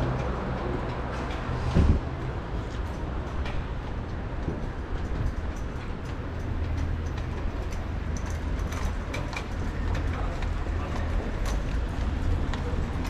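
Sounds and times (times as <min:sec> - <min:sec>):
traffic rumble: 0:00.0 - 0:13.0
wind: 0:00.0 - 0:13.0.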